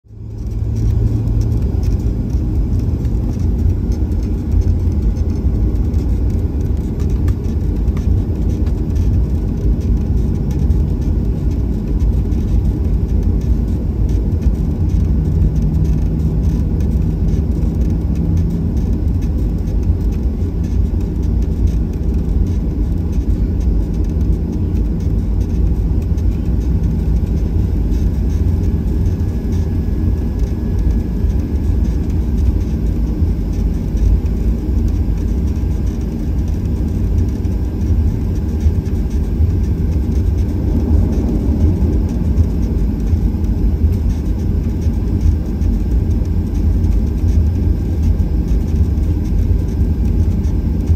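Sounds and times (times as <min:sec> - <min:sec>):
airliner engine rumble: 0:00.0 - 0:50.9
faint hum: 0:00.1 - 0:50.9.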